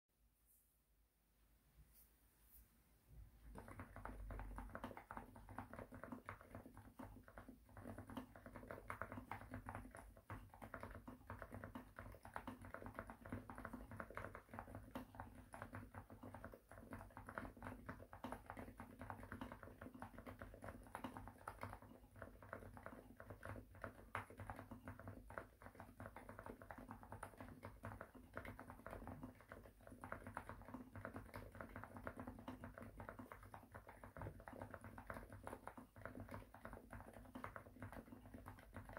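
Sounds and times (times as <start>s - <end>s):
fast muted keyboard typing: 3.4s - 38.9s.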